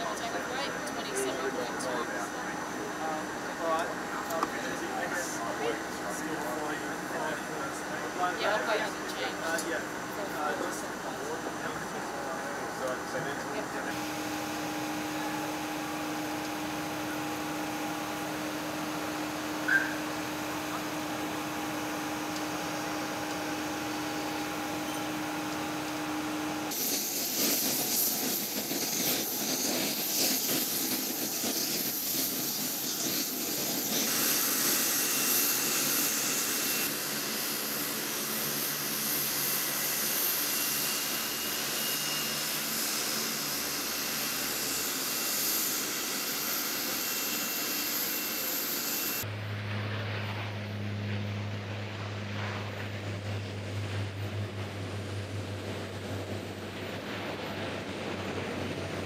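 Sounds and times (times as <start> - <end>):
high-pitched engine whine: 0.0 - 59.0
turboprop engines running: 0.0 - 59.0.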